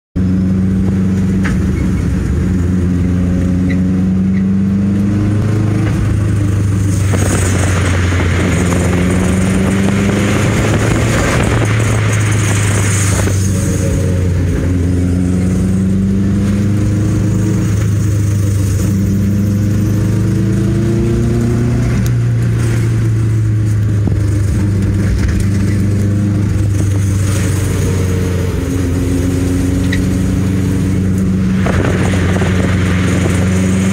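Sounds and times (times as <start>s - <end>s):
car engine accelerating through gears: 0.2s - 33.9s
road noise: 0.2s - 33.9s.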